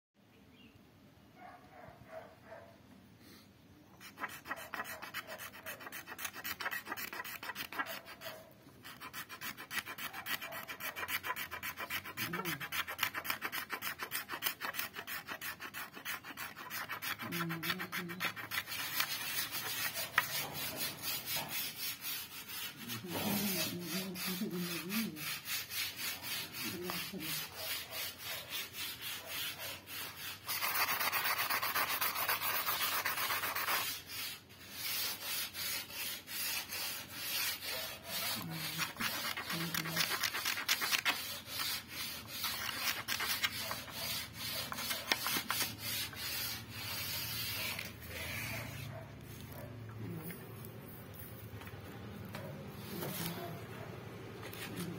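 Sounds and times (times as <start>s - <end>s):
wood being rubbed scratchy rasp: 4.0s - 49.7s.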